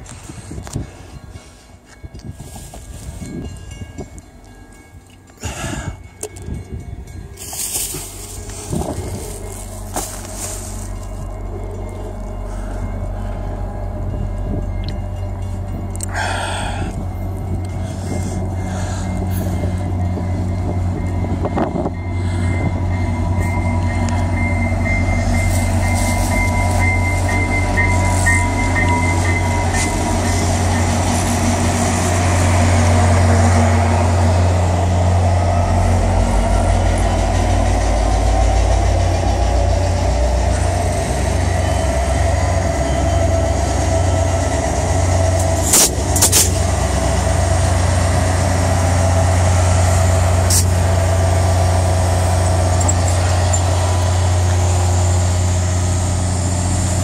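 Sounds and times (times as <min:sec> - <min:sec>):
diesel locomotive drone: 0:00.0 - 0:57.0
train wheels rumbling on rail: 0:00.0 - 0:57.0.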